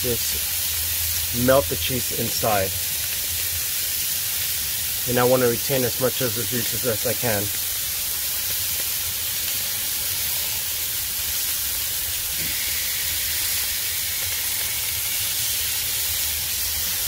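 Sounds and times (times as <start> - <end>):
patties sizzling on a griddle: 0.0 - 17.0.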